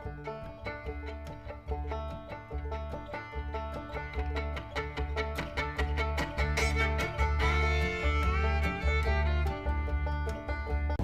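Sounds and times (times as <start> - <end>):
bluegrass fiddle and banjo music: 0.0 - 11.0.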